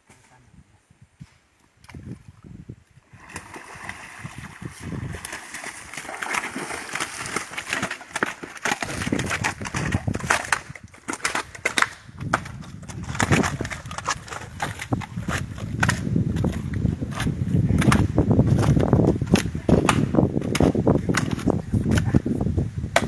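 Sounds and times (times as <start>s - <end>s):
water splashing and sloshing: 1.8s - 22.1s.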